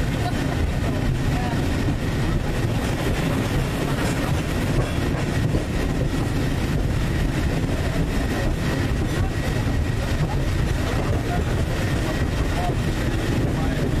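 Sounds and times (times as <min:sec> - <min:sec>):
tram car rumbling: 0:00.0 - 0:14.0.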